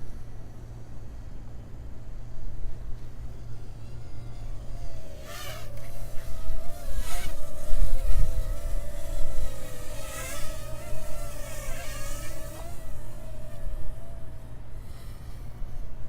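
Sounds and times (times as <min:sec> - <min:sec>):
drone propellers buzzing: 0:02.0 - 0:16.0
wind rumbling on microphone: 0:02.4 - 0:16.0.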